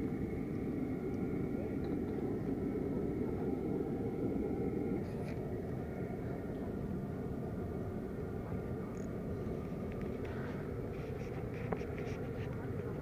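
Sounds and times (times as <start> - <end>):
faint steady hum: 0.0 - 13.0
low background rumble: 0.0 - 13.0.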